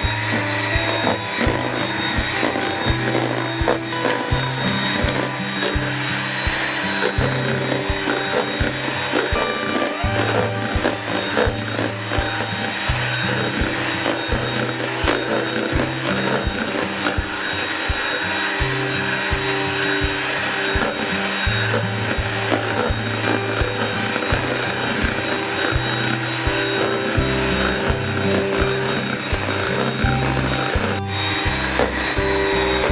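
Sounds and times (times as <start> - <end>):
background music with bass line: 0.0 - 32.9
kitchen appliance motor whining: 0.0 - 32.9.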